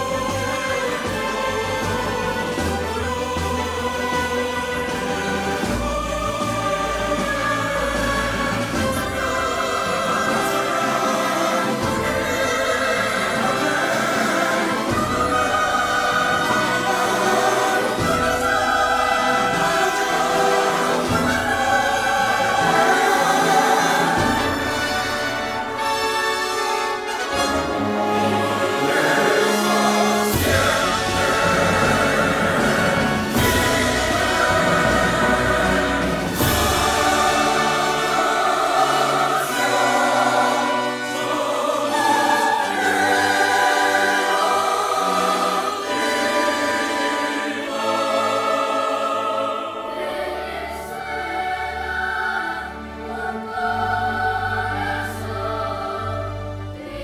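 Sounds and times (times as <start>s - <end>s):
choir singing held chords: 0.0s - 57.0s
orchestral music: 0.0s - 57.0s.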